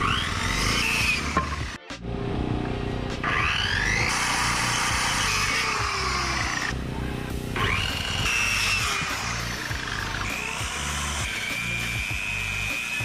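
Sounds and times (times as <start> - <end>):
power saw cutting wood: 0.0 - 1.8, 3.2 - 6.9, 7.5 - 13.0
background music: 0.0 - 13.0.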